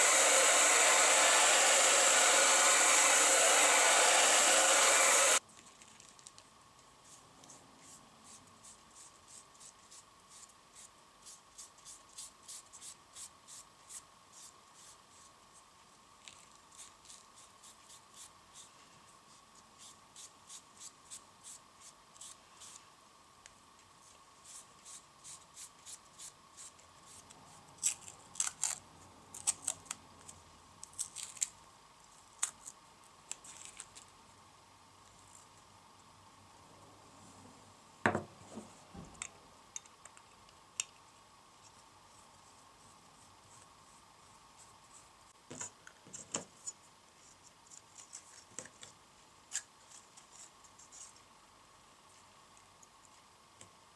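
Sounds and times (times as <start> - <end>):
faint high hum: 0.0 - 53.9.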